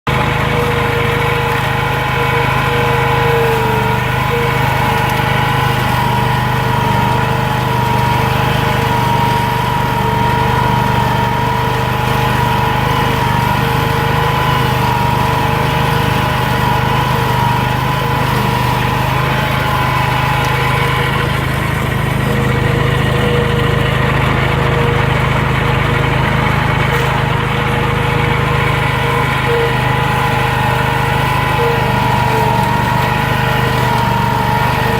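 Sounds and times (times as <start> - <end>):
lawn mower engine droning: 0.0 - 34.9.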